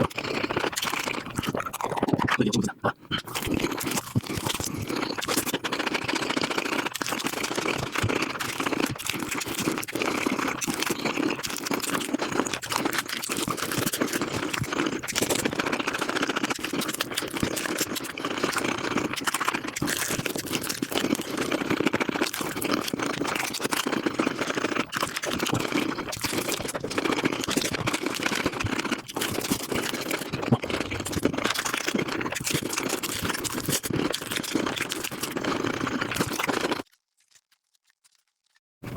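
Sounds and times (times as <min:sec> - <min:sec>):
sped-up chewing and crunching: 0:00.0 - 0:38.9.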